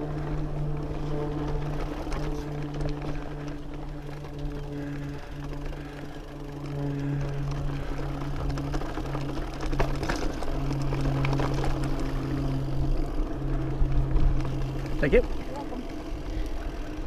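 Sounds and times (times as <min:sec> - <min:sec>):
bike freehub buzzing: 0:00.0 - 0:17.0
tyres rolling over rocky dirt: 0:00.0 - 0:17.0.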